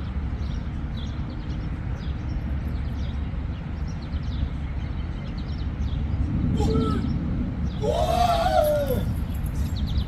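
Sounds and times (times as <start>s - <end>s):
small birds chirping: 0.0s - 8.5s, 9.1s - 10.0s
wind rumble on microphone: 0.0s - 10.0s.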